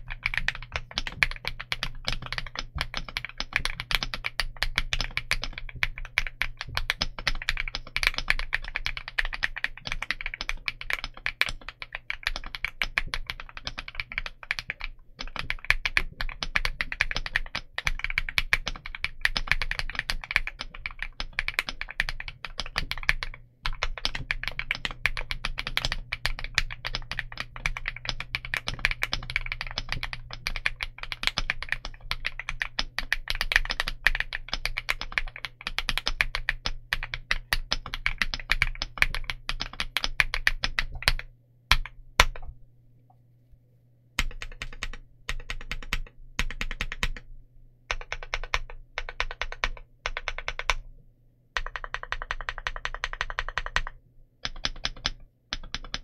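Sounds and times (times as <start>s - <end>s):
typing on mechanical keyboard: 0.0s - 42.5s, 44.2s - 47.3s, 47.9s - 50.9s, 51.6s - 56.0s.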